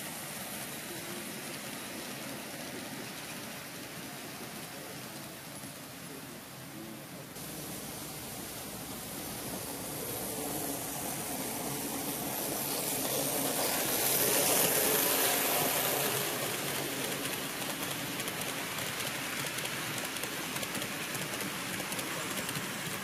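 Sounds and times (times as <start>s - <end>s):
model train wheels rolling: 0.0s - 23.0s.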